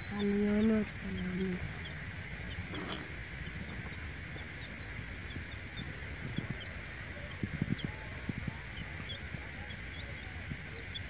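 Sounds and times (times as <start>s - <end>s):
chicks peeping: 0.0s - 11.0s
steady outdoor hiss: 0.0s - 11.0s.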